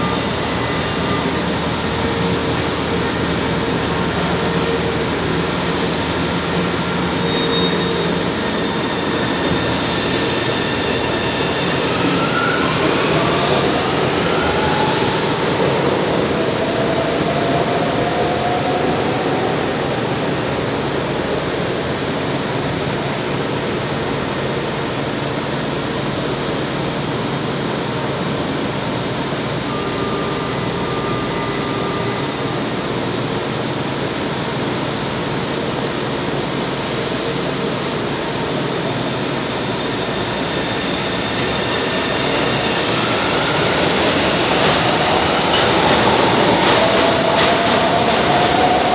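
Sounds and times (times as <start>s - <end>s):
underground train rumble: 0.0s - 48.9s.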